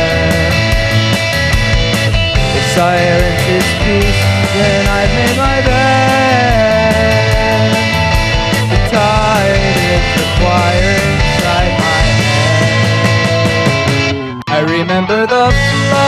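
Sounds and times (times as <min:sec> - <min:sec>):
drums steady beat: 0:00.0 - 0:14.4, 0:15.5 - 0:16.0
bass and guitars: 0:00.0 - 0:16.0.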